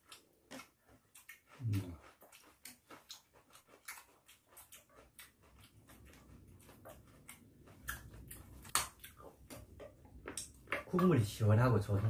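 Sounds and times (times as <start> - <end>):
chewing and mouth smacks: 0.0 - 11.4.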